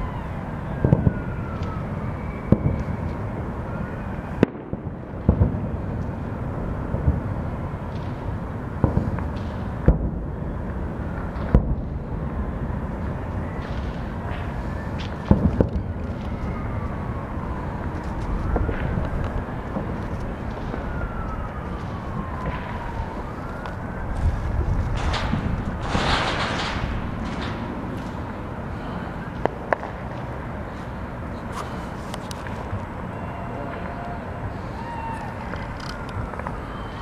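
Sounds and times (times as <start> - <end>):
steady low rumble: 0.0 - 37.0
wailing siren: 0.0 - 37.0
distant fireworks bangs: 0.7 - 30.4.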